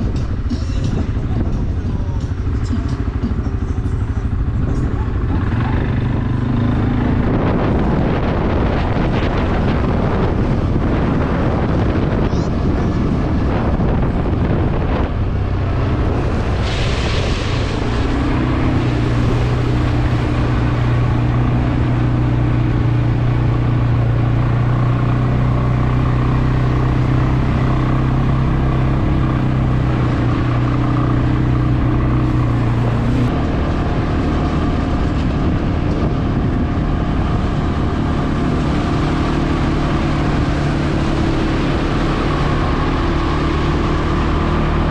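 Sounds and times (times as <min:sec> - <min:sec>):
quad bike engine running: 0:00.0 - 0:16.6, 0:17.9 - 0:44.9
wind on microphone: 0:00.0 - 0:44.9.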